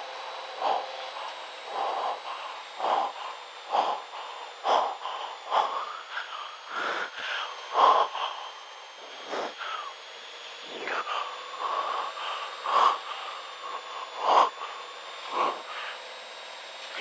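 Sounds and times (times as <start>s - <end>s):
faint electronic whine: 0.0s - 17.0s
person breathing heavily into headset: 0.4s - 16.2s.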